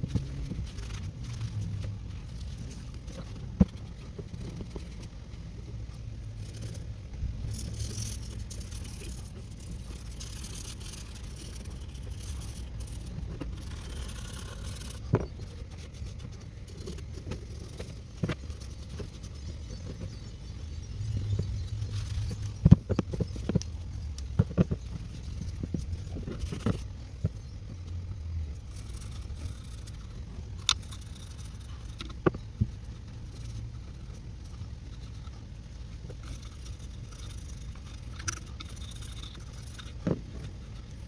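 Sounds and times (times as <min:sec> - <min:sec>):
rubbing and scraping metal: 0:00.0 - 0:41.0.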